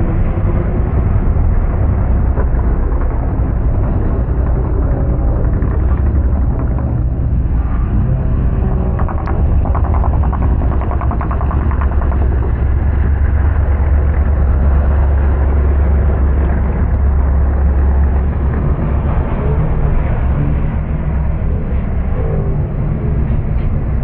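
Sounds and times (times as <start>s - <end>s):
rattling engine pulse: 0.0s - 24.0s
truck engines rumbling: 0.0s - 24.0s.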